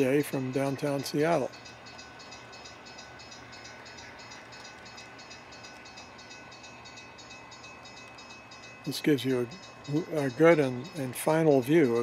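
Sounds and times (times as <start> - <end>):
faint steady tones: 0.0 - 12.0
model train running: 0.0 - 12.0.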